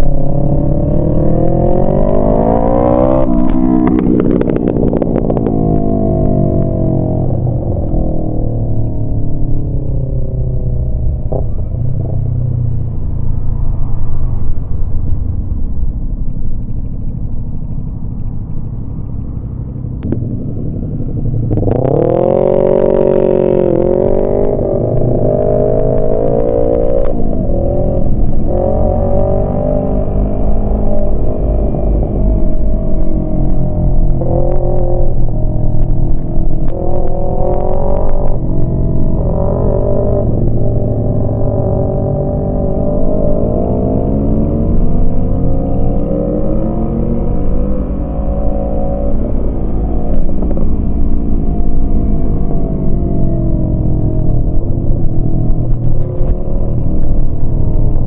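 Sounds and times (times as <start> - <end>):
motorcycle engine revving: 0.0 - 15.6, 16.2 - 58.0.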